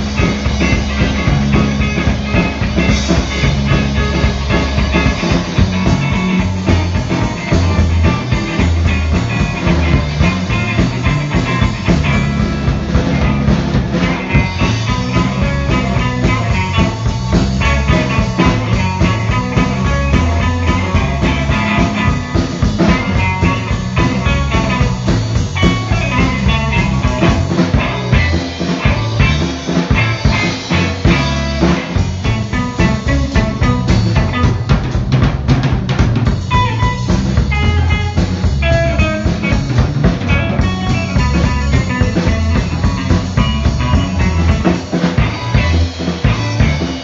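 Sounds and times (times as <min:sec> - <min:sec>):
bass guitar: 0:00.0 - 0:47.0
drum kit: 0:00.0 - 0:47.0
electric guitar: 0:00.0 - 0:47.0.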